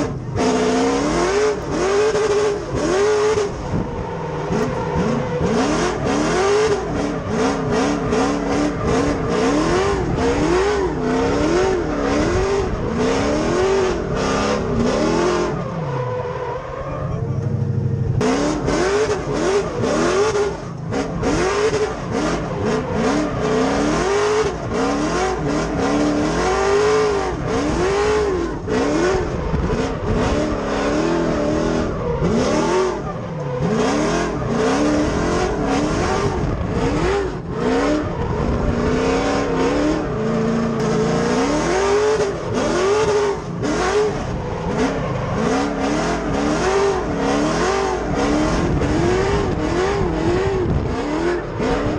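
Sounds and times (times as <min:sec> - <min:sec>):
car engine revving up and down: 0:00.0 - 0:51.9.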